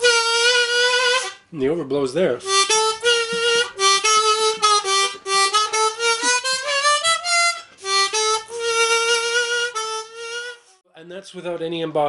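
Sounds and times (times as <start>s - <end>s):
harmonica notes: 0.0s - 1.6s, 2.2s - 10.8s.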